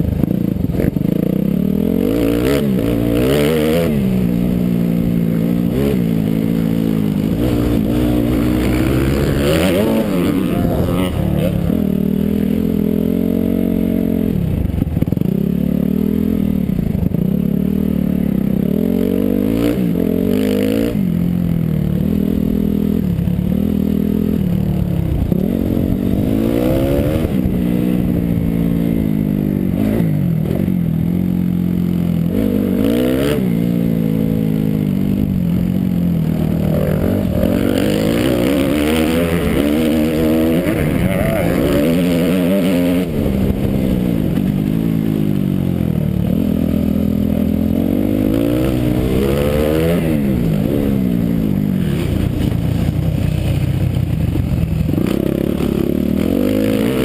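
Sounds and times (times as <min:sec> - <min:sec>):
motocross bike engine revving: 0:00.0 - 0:54.2, 0:54.8 - 0:57.0.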